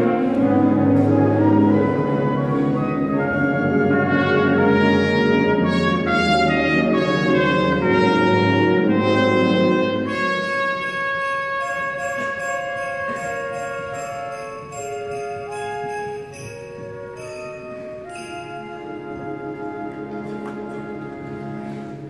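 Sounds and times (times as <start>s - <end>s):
brass section: 0.0s - 22.0s
symphony band playing: 0.0s - 22.0s.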